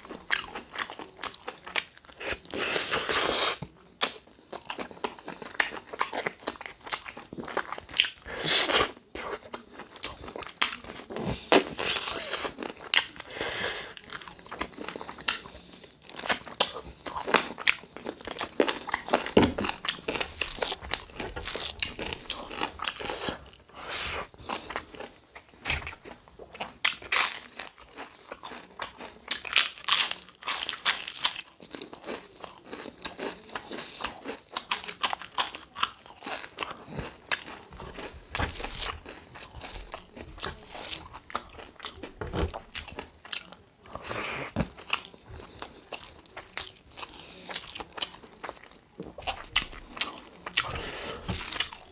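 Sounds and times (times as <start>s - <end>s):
person chewing with crunches: 0.0s - 51.9s.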